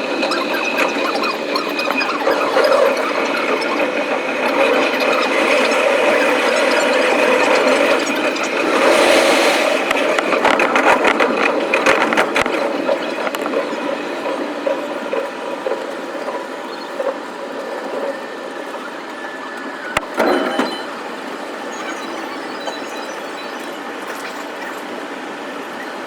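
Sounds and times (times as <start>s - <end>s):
train rolling noise: 0.0s - 26.0s.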